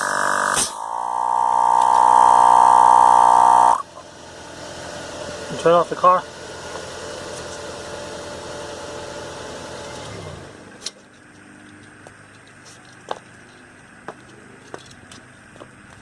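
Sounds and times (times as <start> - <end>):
tire pump whining: 0.0 - 16.0.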